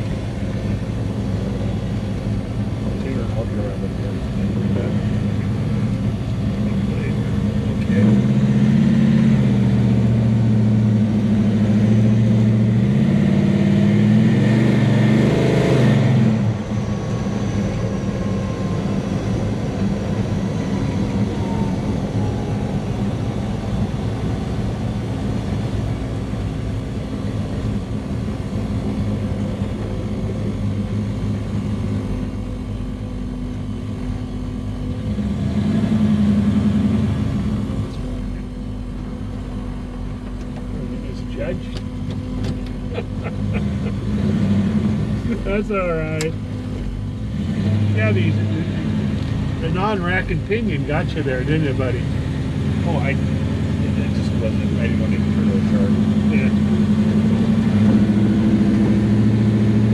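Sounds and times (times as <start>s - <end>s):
engine pulling hard: 0.0s - 59.9s.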